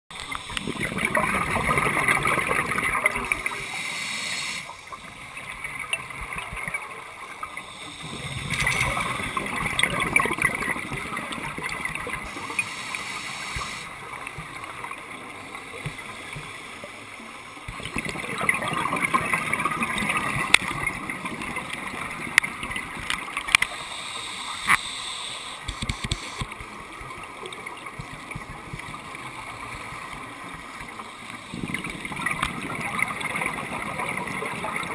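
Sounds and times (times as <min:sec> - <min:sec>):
steady underwater rush: 0:00.1 - 0:34.9.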